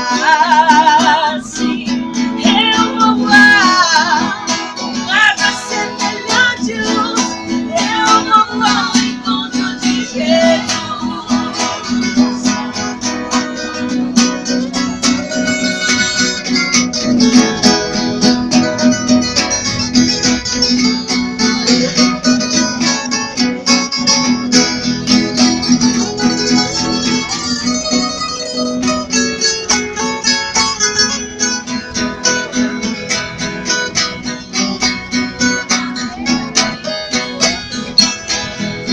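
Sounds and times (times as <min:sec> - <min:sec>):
acoustic guitar: 0:00.0 - 0:38.9
viola caipira plucking: 0:00.0 - 0:38.9.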